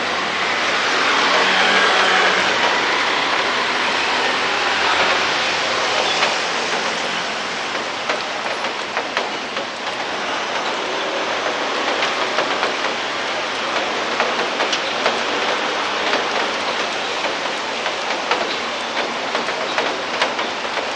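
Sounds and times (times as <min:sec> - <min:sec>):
raindrops ticking on surfaces: 0:00.0 - 0:20.9
steady rain: 0:00.0 - 0:20.9.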